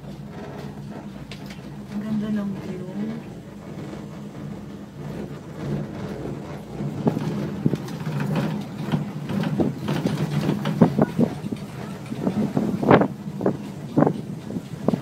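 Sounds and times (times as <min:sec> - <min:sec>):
cable car low hum: 0:00.0 - 0:15.0
cable car rattles and clacks: 0:00.0 - 0:15.0.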